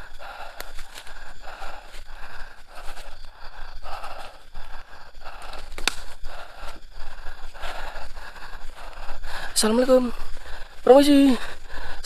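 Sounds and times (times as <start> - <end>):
man breathing heavily: 0.0 - 12.0.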